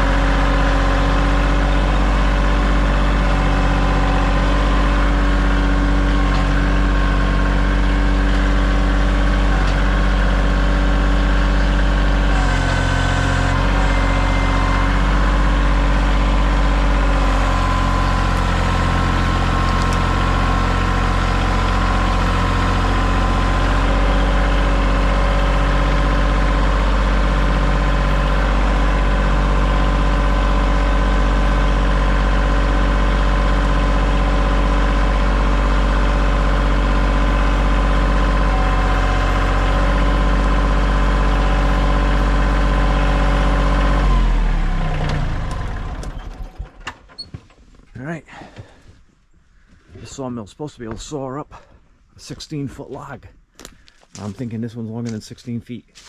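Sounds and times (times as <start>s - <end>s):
tractor diesel engine idling: 0.0s - 47.2s.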